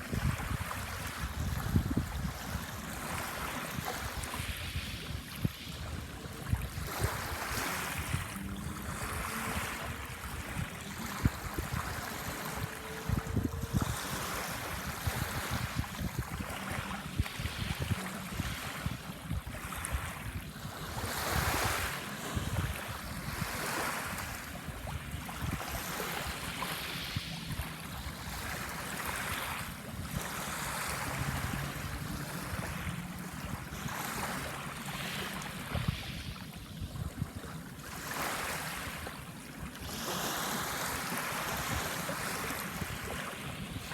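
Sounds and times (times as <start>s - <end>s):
wind buffeting microphone: 0.0s - 39.2s
small waves washing ashore: 0.0s - 43.9s.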